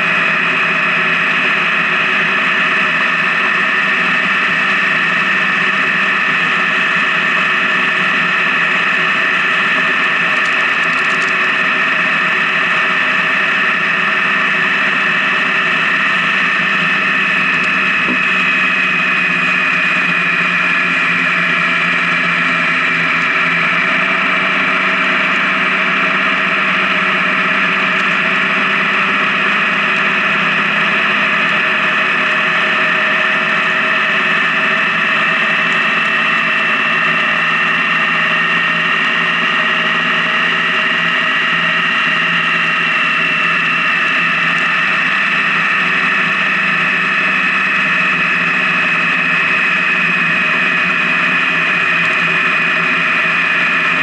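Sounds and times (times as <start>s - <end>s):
motorcycle engine cruising: 0.0s - 54.0s
road noise: 0.0s - 54.0s.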